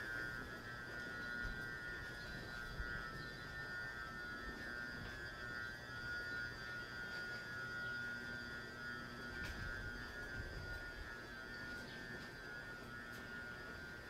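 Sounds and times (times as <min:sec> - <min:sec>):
electric train whine: 0:00.0 - 0:14.0
low hum: 0:00.0 - 0:14.0.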